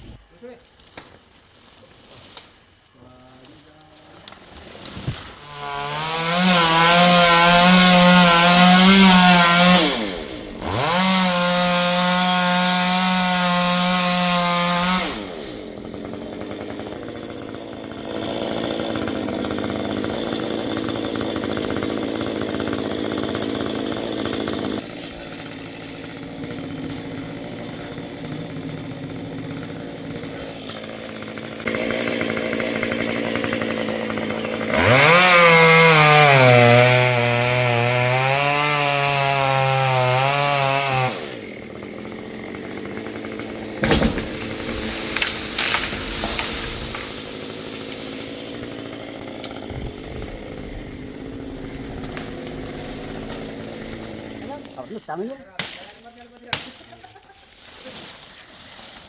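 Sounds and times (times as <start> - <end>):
chainsaw revving: 5.4 - 55.4.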